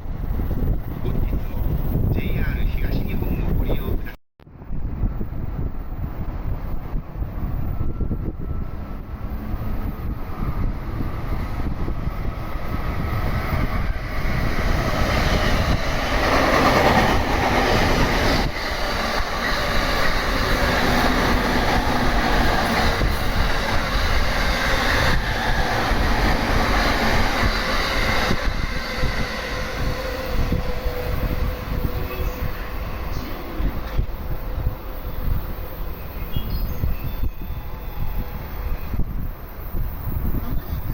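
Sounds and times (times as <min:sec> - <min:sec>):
electric train passing: 0:04.6 - 0:40.9.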